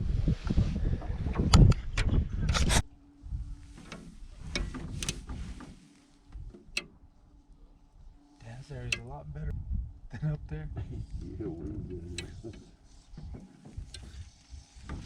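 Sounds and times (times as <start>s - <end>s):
wind buffeting microphone: 0.0s - 6.8s, 8.8s - 15.0s
faint steady hum: 0.1s - 15.0s.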